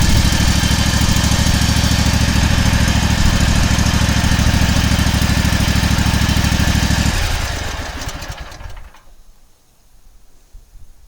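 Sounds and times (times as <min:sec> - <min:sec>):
lawn mower engine idling: 0:00.0 - 0:09.2.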